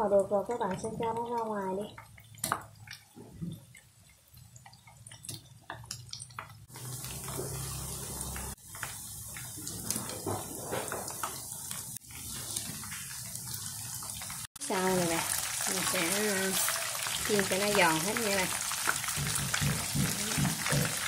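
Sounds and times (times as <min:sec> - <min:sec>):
spring rolls deep-frying in oil: 0:00.0 - 0:21.0.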